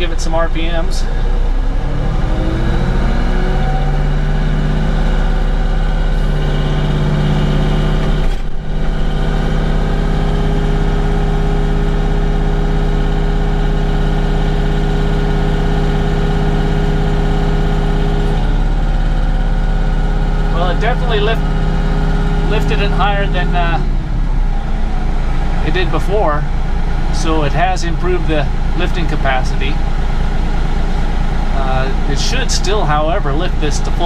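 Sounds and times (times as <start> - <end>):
tractor diesel engine revving: 0.0 - 34.0.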